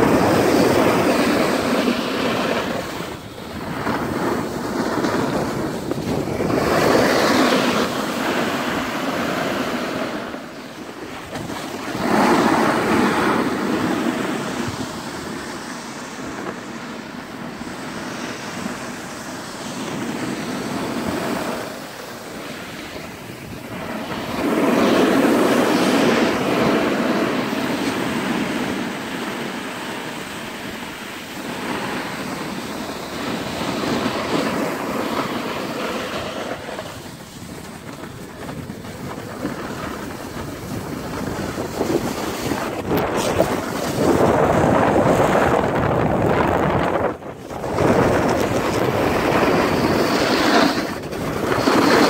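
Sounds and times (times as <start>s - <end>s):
skis hissing over snow: 0.0s - 52.0s
wind rushing over microphone: 0.0s - 52.0s.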